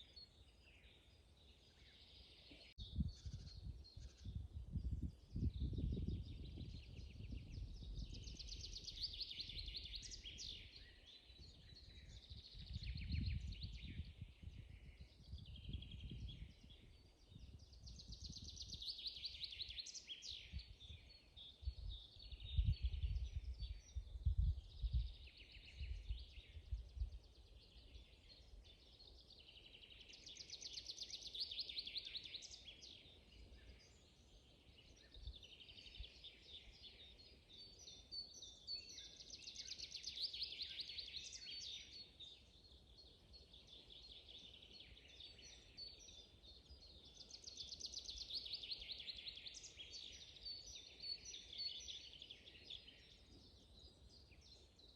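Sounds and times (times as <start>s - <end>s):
bird song of rapid notes: 0.0s - 54.9s
songbirds singing: 0.0s - 54.9s.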